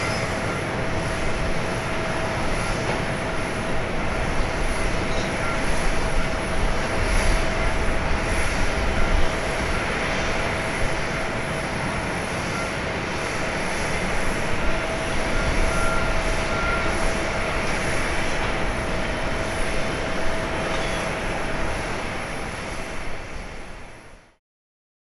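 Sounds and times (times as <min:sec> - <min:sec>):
jet engines rumbling: 0:00.0 - 0:24.3
faint steady whine: 0:00.0 - 0:24.4.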